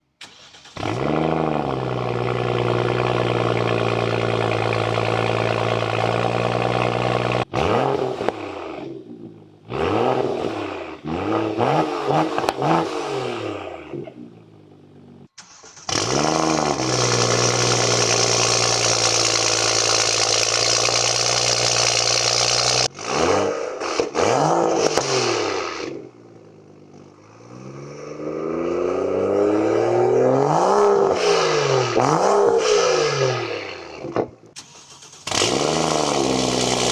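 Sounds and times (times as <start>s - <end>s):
car engine revving: 0.3s - 36.9s.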